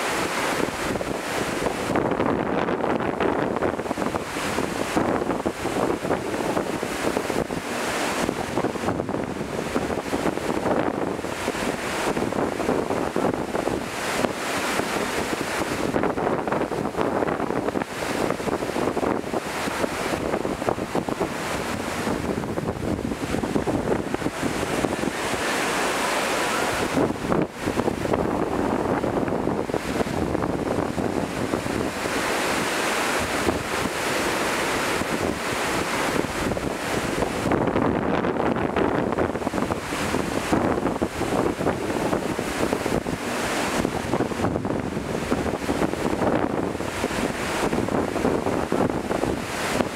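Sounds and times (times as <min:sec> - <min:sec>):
surf washing up a beach: 0:00.0 - 0:49.9
wind buffeting microphone: 0:00.0 - 0:49.9.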